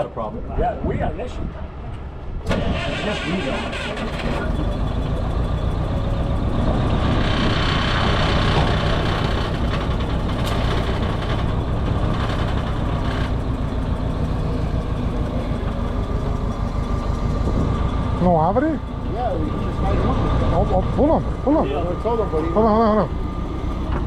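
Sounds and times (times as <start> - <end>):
forklift engine running: 2.0 - 24.0.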